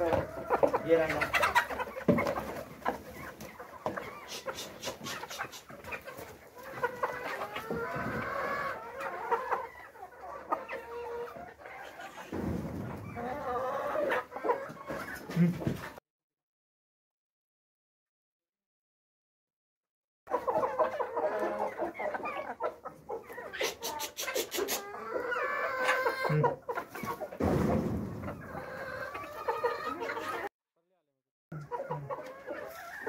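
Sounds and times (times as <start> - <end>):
chickens clucking: 0.0 - 16.0, 20.3 - 30.5, 31.5 - 33.0.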